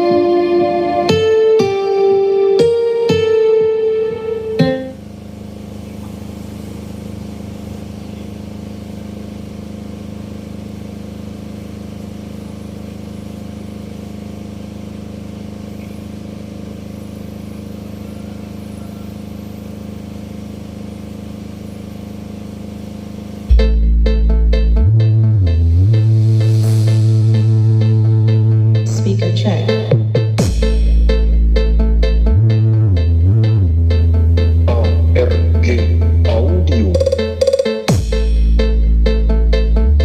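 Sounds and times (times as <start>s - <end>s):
electrical hum from speakers: 0.0s - 40.0s.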